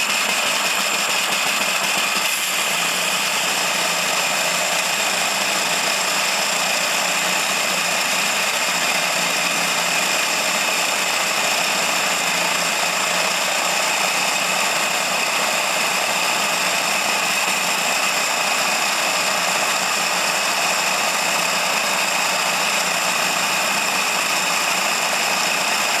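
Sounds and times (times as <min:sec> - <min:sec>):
tumbler motor hum: 0:00.0 - 0:26.0.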